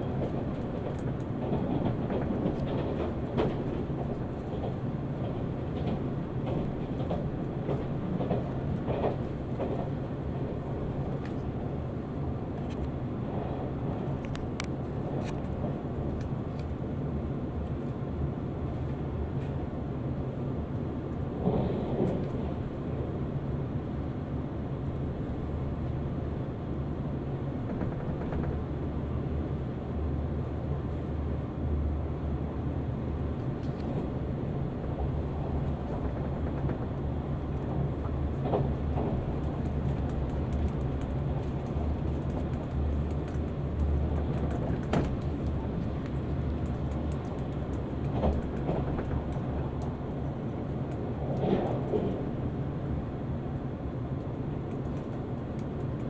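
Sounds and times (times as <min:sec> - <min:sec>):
train rumbling inside carriage: 0:00.0 - 0:56.0.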